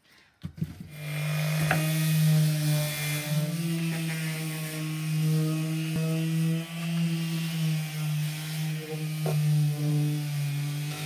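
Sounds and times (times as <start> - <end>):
palm sander buzzing on wood: 0.9 - 11.0.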